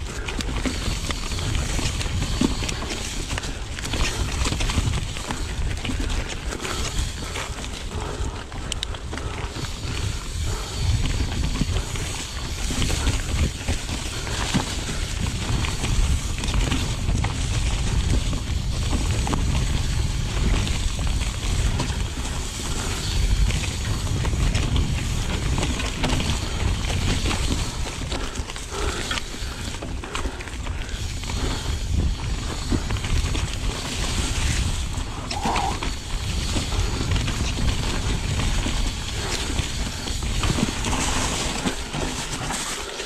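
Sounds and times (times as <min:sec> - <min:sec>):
wind on microphone: 0:00.0 - 0:42.5
bike clicks and rattles: 0:00.0 - 0:43.0
bike tyres rumbling on dirt: 0:00.0 - 0:43.0.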